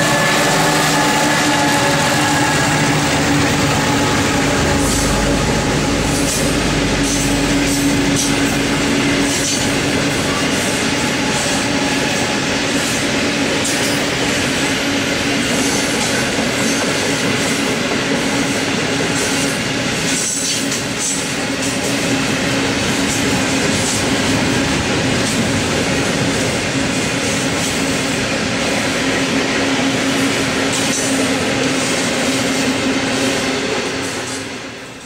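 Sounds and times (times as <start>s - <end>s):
diesel locomotives working hard: 0.0s - 35.0s
train wheels clicking: 0.0s - 35.0s.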